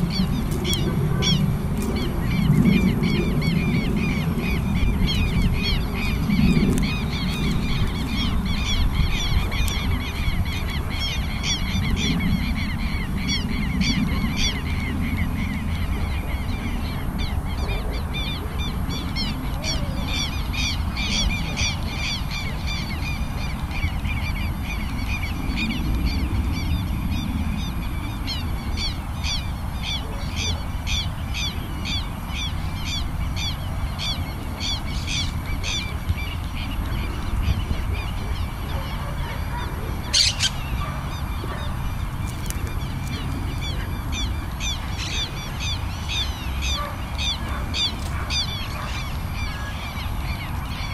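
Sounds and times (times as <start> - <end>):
birds harsh calls: 0.0 - 50.9
wind rumbling on microphone: 0.0 - 50.9.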